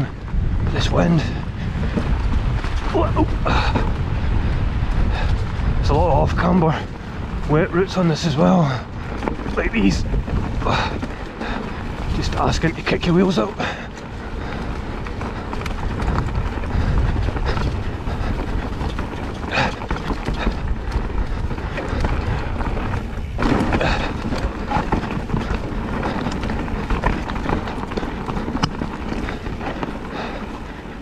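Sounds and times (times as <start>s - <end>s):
bike rattling and knocking: 0.0s - 31.0s
bike tyres rumbling over roots: 0.0s - 31.0s
wind buffeting microphone: 0.0s - 31.0s.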